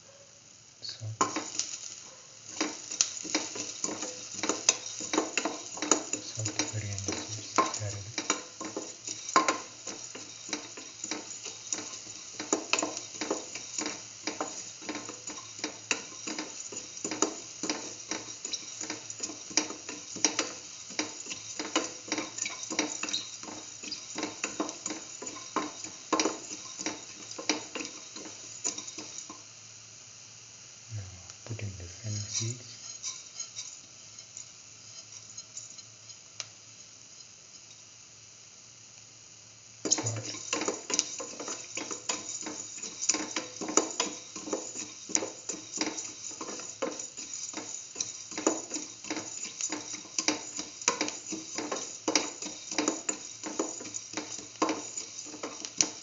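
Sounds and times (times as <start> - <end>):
seeds sizzling in hot oil: 0.0 - 56.0
stirring clicks and scrapes in pan: 0.9 - 29.6, 31.3 - 37.9, 39.8 - 56.0.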